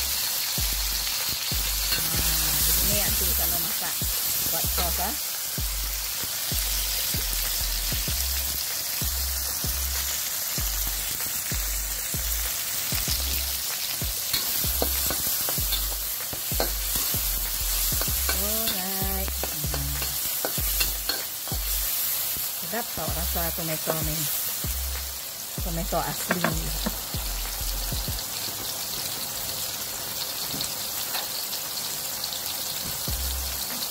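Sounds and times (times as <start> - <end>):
background music beat: 0.0 - 28.4, 32.9 - 33.9
vegetables sizzling in hot oil: 0.0 - 33.9.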